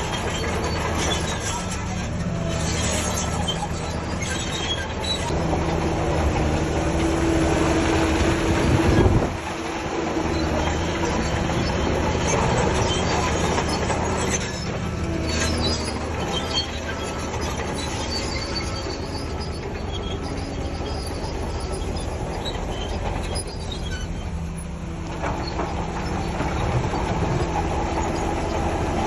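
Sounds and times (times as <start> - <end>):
bulldozer diesel engine under load: 0.0 - 29.0
steel tracks squealing and clattering: 0.0 - 29.0.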